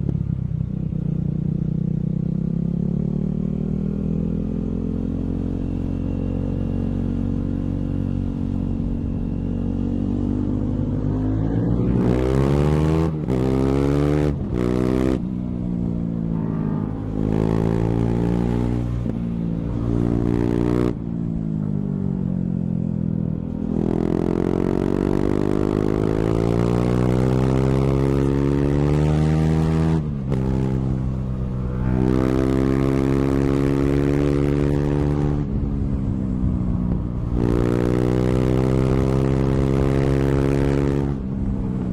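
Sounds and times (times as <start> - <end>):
motorcycle engine revving: 0.0 - 21.7, 22.8 - 41.9.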